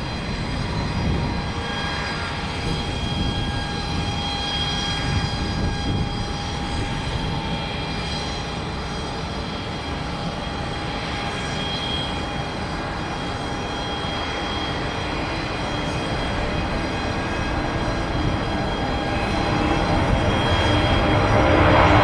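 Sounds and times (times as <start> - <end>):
aircraft engines rumbling and whining: 0.0 - 22.0.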